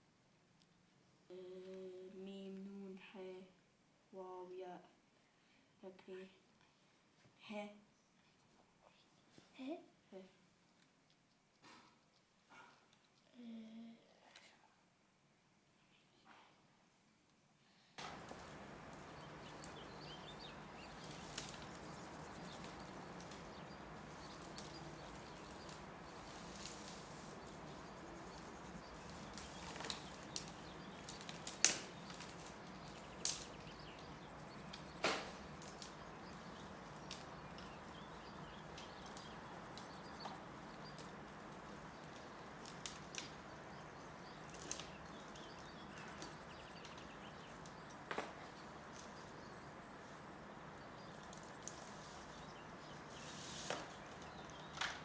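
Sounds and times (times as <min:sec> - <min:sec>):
steady outdoor hiss: 0:00.0 - 0:12.5, 0:13.1 - 0:55.0.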